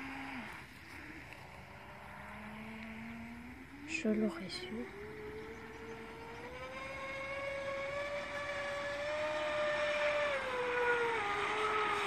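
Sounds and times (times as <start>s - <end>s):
speedboat electric motor whine: 0.0s - 12.0s.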